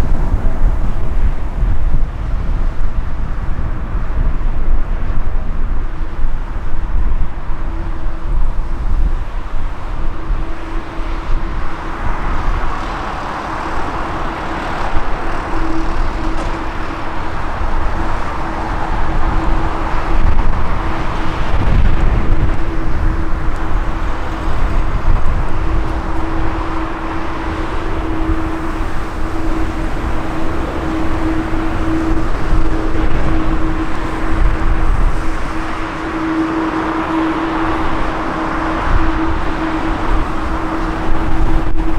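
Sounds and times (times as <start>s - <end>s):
wind rumbling on microphone: 0.0s - 41.9s
jet engine drone: 5.8s - 41.9s.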